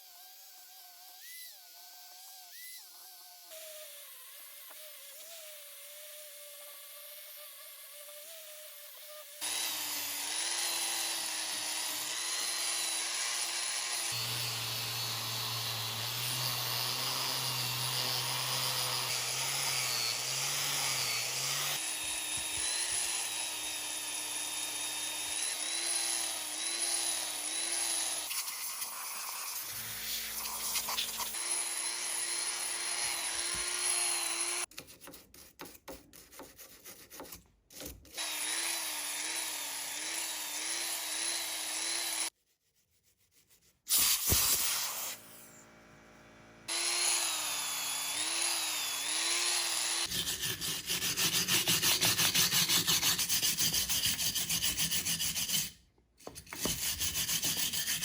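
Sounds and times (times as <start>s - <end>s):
power tool scrubbing metal: 2.2s - 34.7s, 38.2s - 42.3s, 43.9s - 55.7s.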